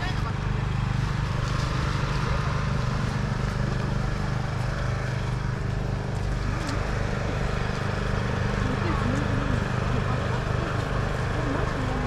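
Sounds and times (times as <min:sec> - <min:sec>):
low engine-like drone: 0:00.0 - 0:12.0.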